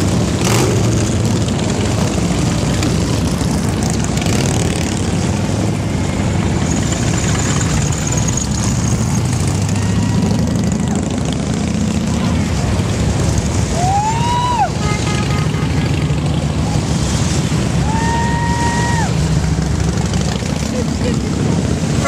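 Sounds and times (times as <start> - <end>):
motorcycles riding past: 0.0 - 22.0.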